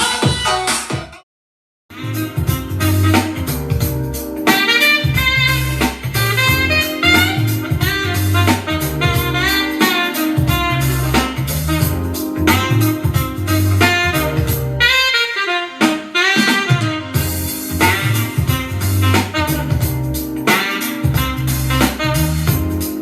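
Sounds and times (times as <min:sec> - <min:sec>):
saxophone-like melody: 0:01.9 - 0:23.0
pulsing bass and beat: 0:02.0 - 0:14.8, 0:17.2 - 0:23.0.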